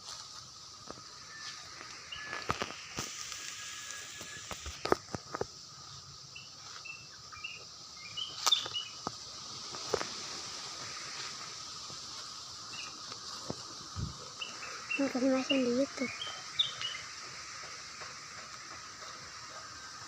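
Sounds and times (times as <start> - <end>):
steady high drone and hiss: 0.0 - 20.0.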